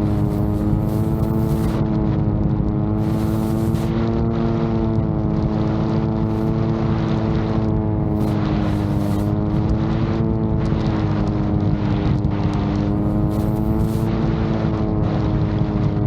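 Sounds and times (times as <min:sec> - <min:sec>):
drone motors humming: 0:00.0 - 0:16.0
wind on microphone: 0:00.0 - 0:16.0.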